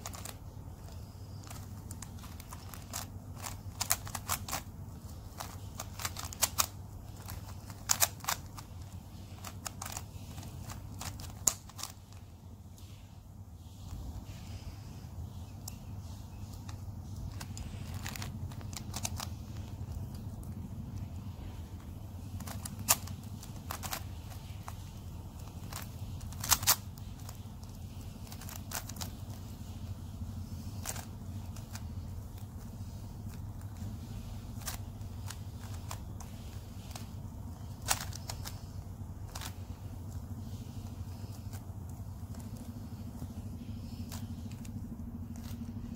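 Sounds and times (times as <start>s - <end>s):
puzzle cube clicking: 0.0s - 12.2s, 15.5s - 29.9s, 30.6s - 45.9s
low hum: 0.0s - 45.9s.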